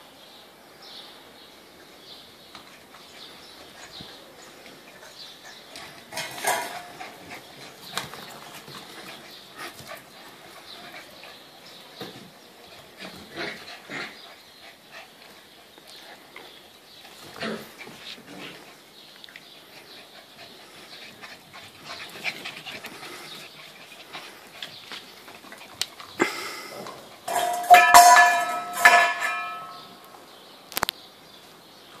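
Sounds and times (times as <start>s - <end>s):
puppies scuffling: 2.4s - 26.2s, 26.8s - 30.0s.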